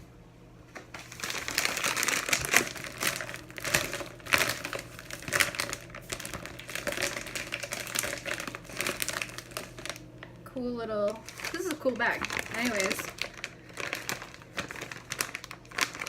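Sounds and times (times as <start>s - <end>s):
packaging bag crinkling: 0.8s - 10.2s, 11.0s - 16.0s.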